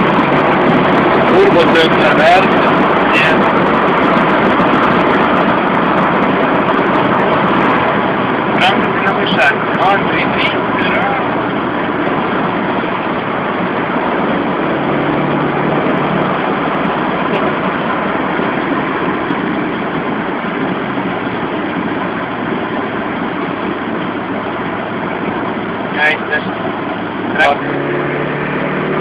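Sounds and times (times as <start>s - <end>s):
low engine hum: 0.0s - 29.0s
rush of tyres and wind: 0.0s - 29.0s.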